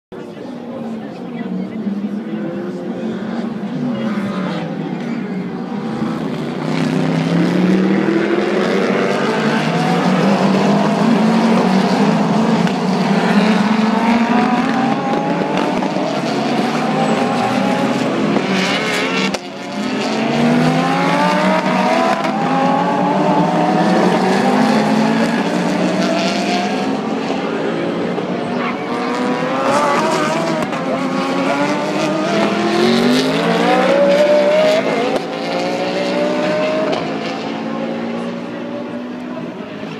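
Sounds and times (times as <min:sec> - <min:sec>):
race car engines accelerating: 0:00.2 - 0:39.9.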